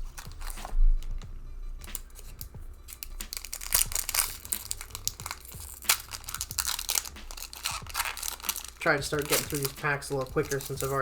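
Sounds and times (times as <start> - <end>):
foil wrapper crinkling: 0.0 - 0.8, 1.9 - 11.0
trading cards being handled: 0.0 - 11.0.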